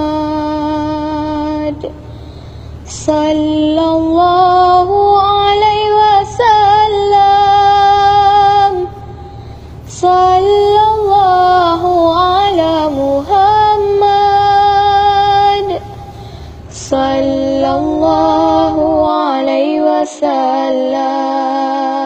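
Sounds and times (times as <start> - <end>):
person singing devotional song: 0.0 - 22.0.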